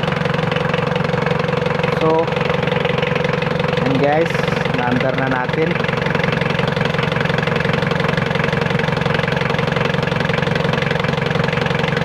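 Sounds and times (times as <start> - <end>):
diesel engine idling with clatter: 0.0 - 12.0.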